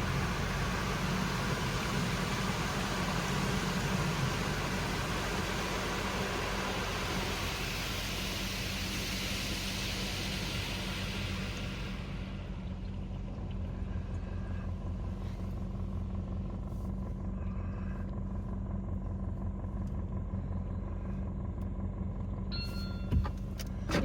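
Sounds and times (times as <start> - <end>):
car hum inside car wash: 0.0 - 24.0.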